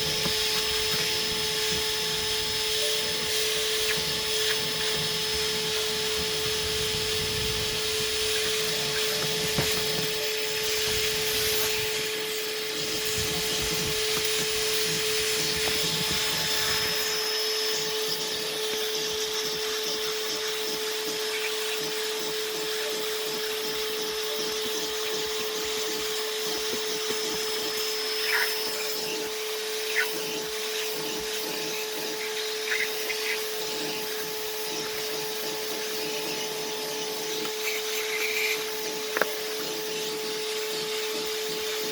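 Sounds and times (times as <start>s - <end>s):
vacuum cleaner low rumble: 0.0s - 41.9s
vacuum cleaner whining: 0.0s - 41.9s.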